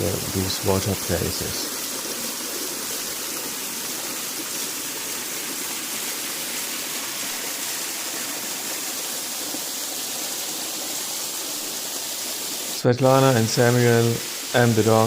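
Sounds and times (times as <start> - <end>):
waterfall splashing into pond: 0.0 - 15.0.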